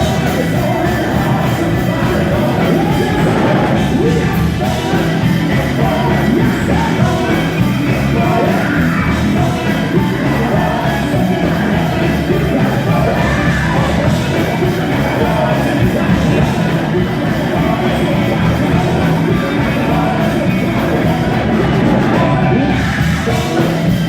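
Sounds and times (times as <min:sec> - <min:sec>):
gospel quartet with live band: 0:00.0 - 0:24.0
lead singer shouting and wailing: 0:00.0 - 0:24.0.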